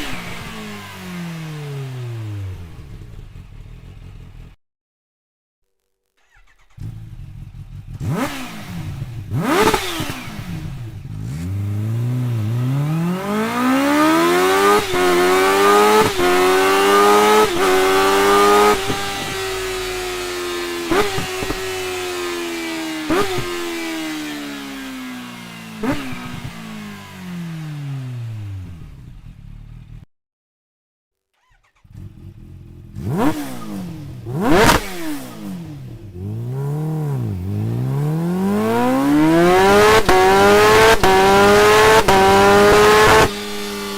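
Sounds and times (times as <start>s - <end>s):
motorcycle engine revving: 0.0s - 4.6s, 6.1s - 30.1s, 31.4s - 43.9s.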